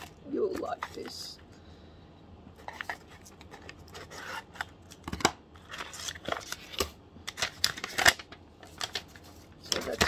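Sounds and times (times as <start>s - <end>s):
cardboard and paper rustling: 0.0s - 1.4s, 2.6s - 10.0s.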